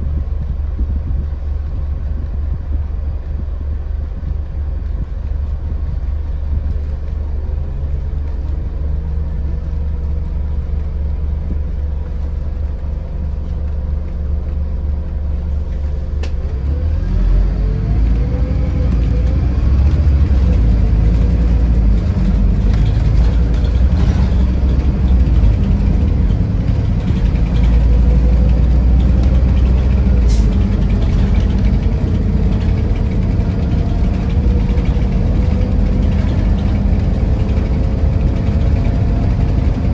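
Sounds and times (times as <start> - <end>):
coach engine running: 0.0 - 39.9
engine whine: 0.0 - 39.9.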